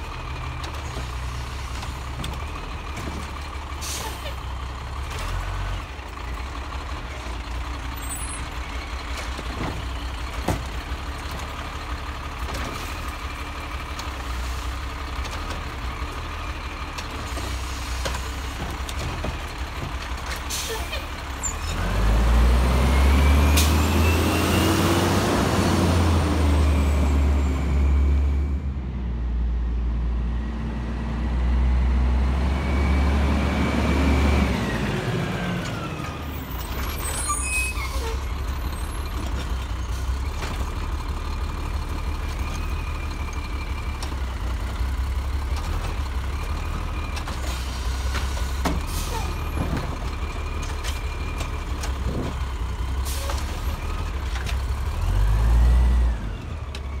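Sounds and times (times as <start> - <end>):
diesel truck engine revving and idling: 0.0 - 57.0.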